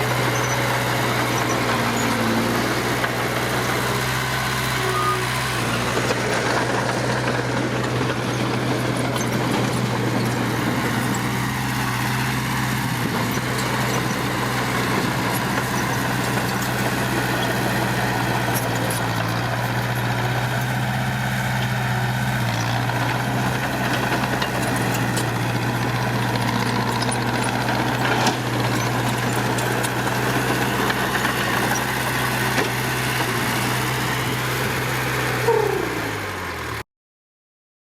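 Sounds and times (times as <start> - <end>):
heavy diesel engine running: 0.0 - 36.8.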